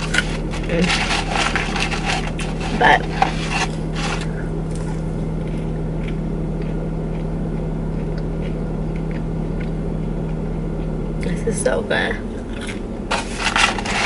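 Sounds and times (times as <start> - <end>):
chewing fries: 0.0 - 11.0, 12.4 - 14.0
car engine humming: 0.0 - 14.0.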